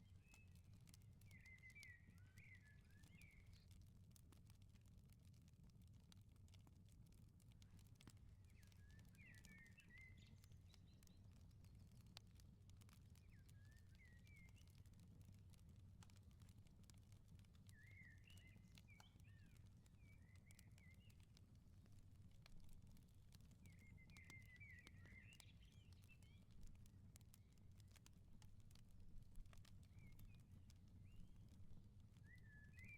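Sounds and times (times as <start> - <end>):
small birds chirping: 0.0 - 3.9, 7.6 - 15.4, 17.5 - 32.9
firepit crackling: 0.0 - 32.9.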